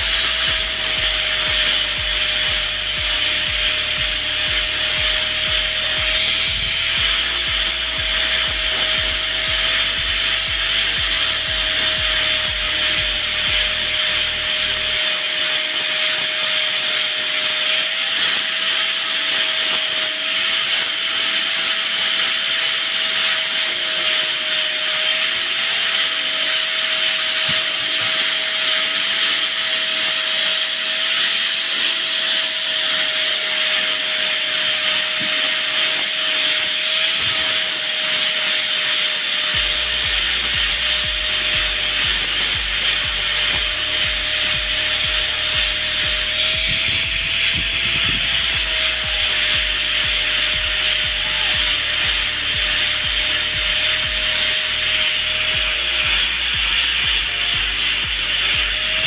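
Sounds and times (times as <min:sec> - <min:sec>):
angle grinder grinding coconut husk: 0:00.0 - 0:59.0.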